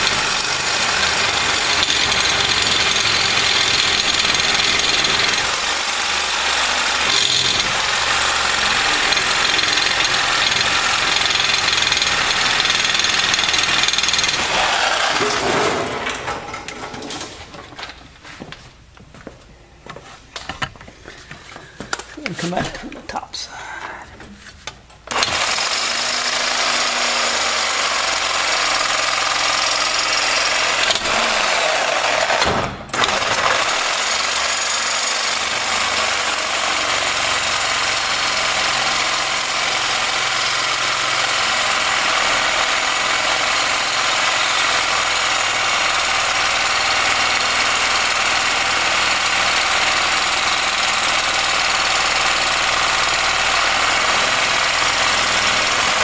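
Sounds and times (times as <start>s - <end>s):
reciprocating saw cutting metal: 0.0s - 16.0s, 25.1s - 56.0s.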